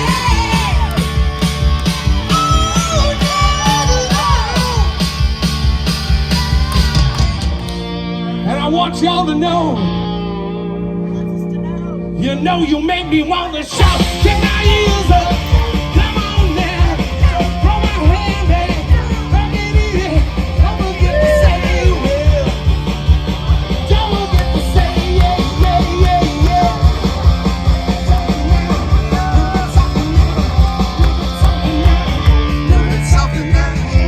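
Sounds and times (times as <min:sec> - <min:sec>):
drum beat: 0:00.0 - 0:07.9, 0:13.8 - 0:34.0
live rock band playing: 0:00.0 - 0:34.0.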